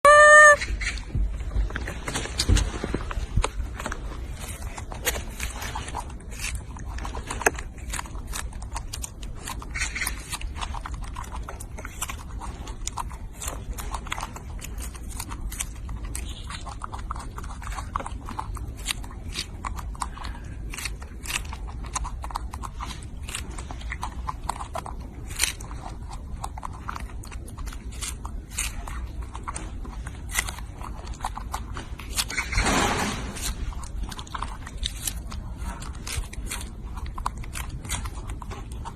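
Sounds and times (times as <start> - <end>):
monkey chewing and crunching: 0.0 - 38.9.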